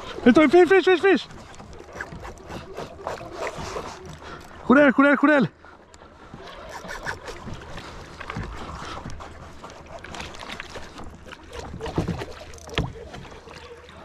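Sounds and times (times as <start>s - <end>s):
water sloshing: 0.0s - 14.0s.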